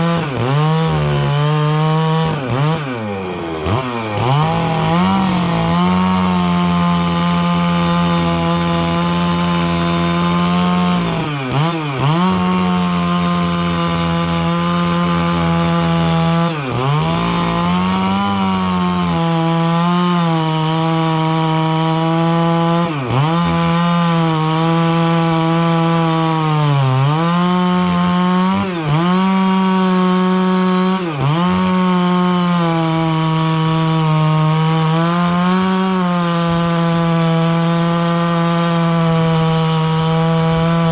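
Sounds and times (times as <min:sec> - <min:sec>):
chainsaw cutting log at high revs: 0:00.0 - 0:40.9.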